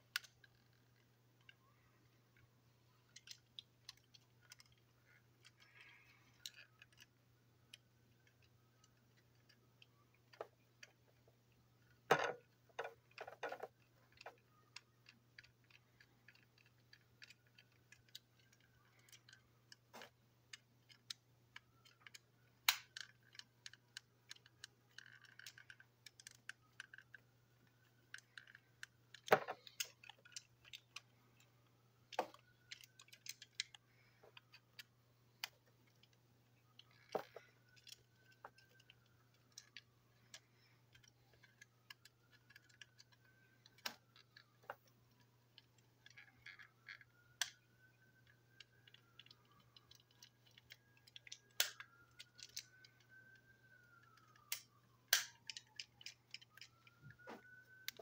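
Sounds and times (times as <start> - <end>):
toy parts clicking and tapping: 0.0 - 58.0.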